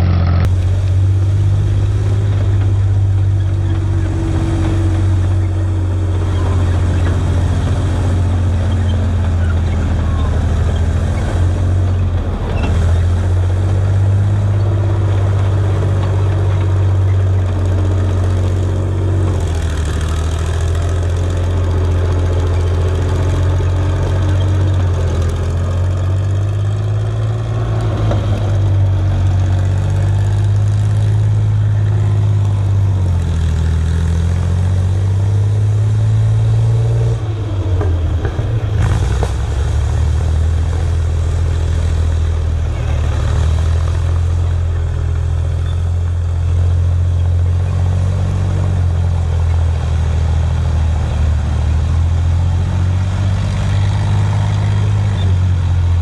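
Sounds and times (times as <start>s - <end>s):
tank engine droning: 0.0s - 56.0s.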